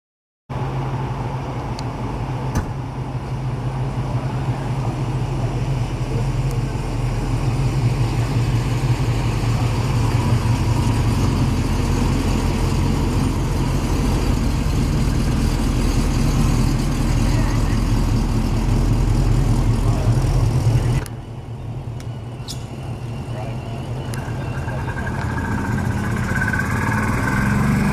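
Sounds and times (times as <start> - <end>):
vehicle engine low rumble: 0.5 - 27.9.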